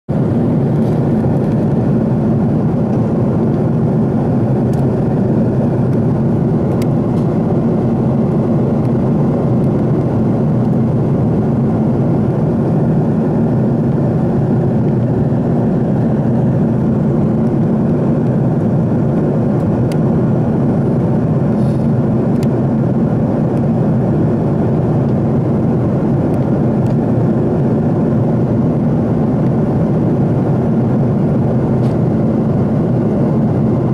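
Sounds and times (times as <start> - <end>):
airliner cabin engine rush: 0.1 - 33.9.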